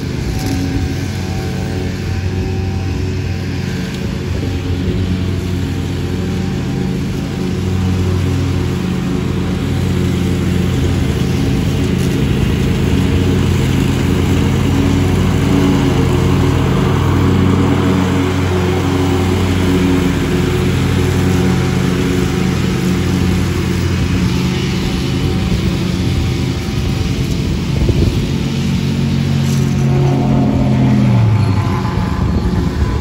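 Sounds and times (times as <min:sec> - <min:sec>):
lawn mower engine running: 0:00.0 - 0:33.0.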